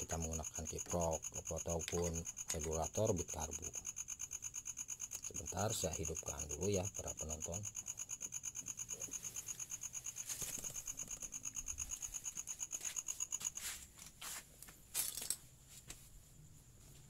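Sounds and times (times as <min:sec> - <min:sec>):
rapid high-pitched chirping: 0:00.0 - 0:13.7.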